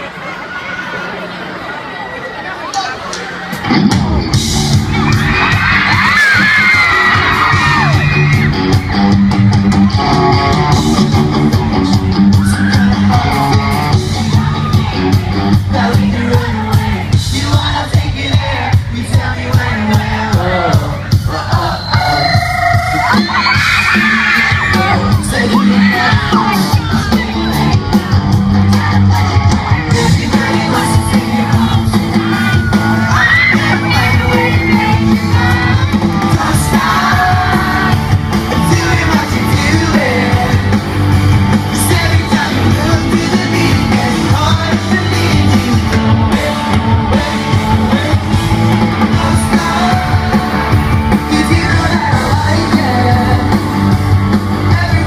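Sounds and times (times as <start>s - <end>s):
audience yelling: 0.0s - 15.6s, 20.6s - 55.0s
live pop-rock band playing: 3.0s - 55.0s
lead singing: 4.8s - 55.0s.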